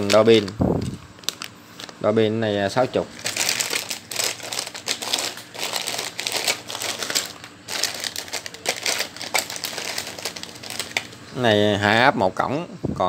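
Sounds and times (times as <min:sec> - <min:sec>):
plastic bags crinkling: 0:00.0 - 0:02.1, 0:02.7 - 0:11.2.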